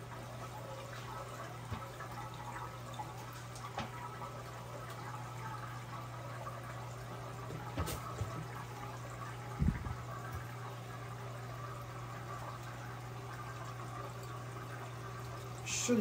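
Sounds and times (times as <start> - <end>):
low fan hum: 0.0 - 16.0
toilet tank refilling: 0.0 - 16.0.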